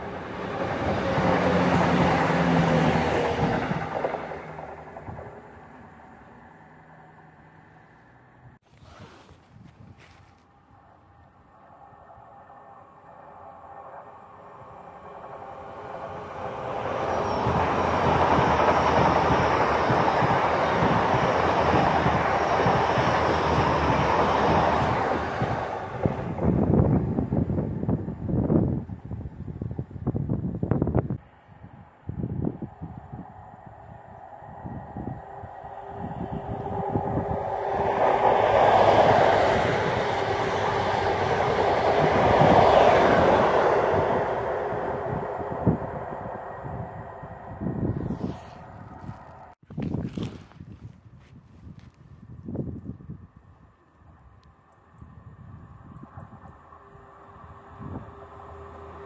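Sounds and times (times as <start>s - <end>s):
high-speed train rushing past: 0.0s - 8.3s, 10.5s - 49.6s, 55.1s - 59.0s.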